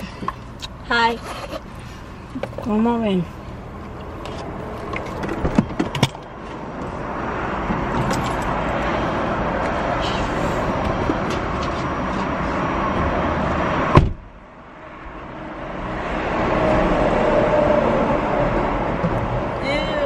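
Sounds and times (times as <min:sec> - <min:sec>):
car road and engine noise: 0:00.0 - 0:20.0.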